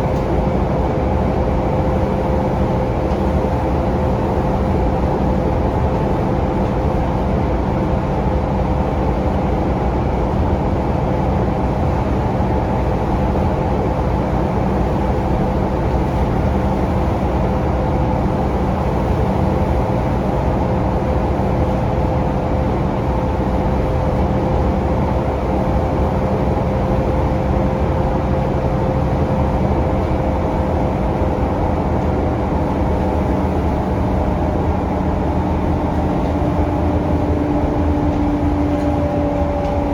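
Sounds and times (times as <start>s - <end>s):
bus engine running with whine: 0.0s - 39.9s.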